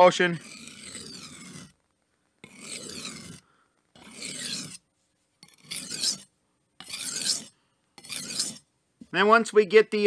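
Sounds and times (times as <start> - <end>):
knife scraping on sharpening stone: 0.0 - 1.8, 2.4 - 8.7.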